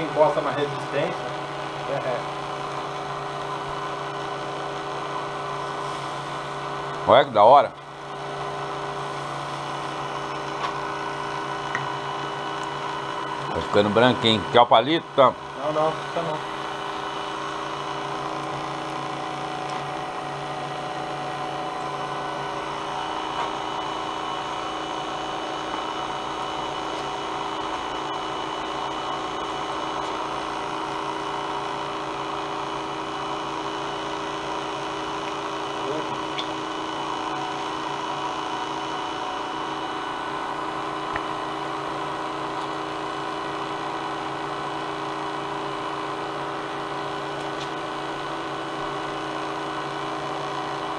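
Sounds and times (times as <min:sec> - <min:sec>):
cotton candy machine whirring: 0:00.0 - 0:50.9.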